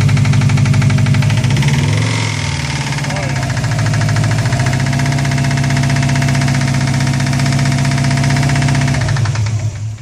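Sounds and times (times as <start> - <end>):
car engine knocking: 0.0 - 10.0.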